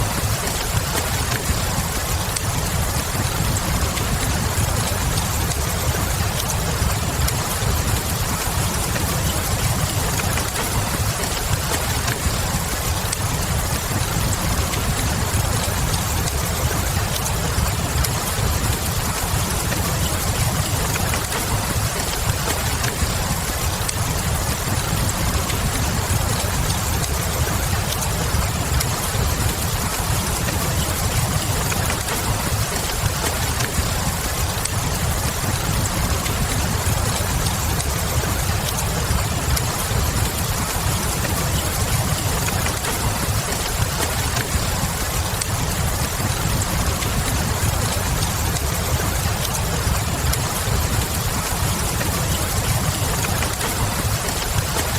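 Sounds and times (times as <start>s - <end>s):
steady rain hiss: 0.0s - 54.9s
wood fire crackling: 0.0s - 54.9s.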